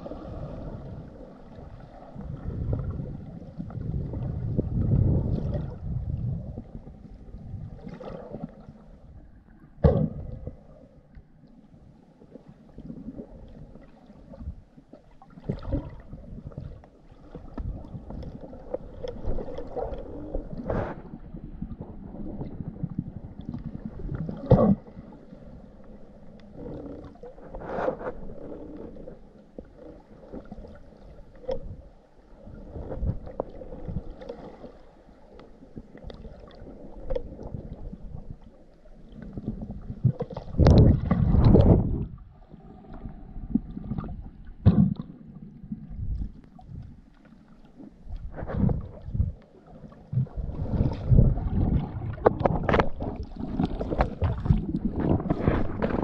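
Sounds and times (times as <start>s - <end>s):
muffled underwater water noise: 0.0s - 56.0s.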